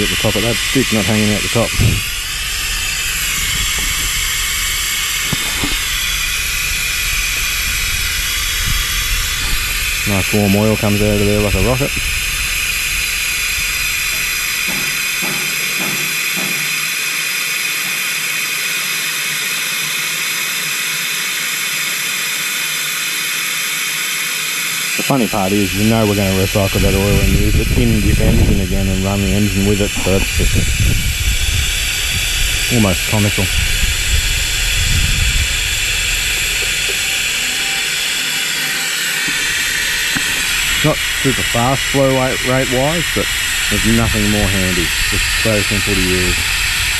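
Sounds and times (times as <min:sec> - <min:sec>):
air oil extractor hissing: 0:00.0 - 0:46.9.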